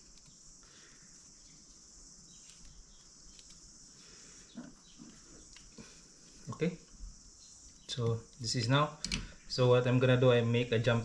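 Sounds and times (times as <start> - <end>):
faint high hiss: 0.0 - 11.0.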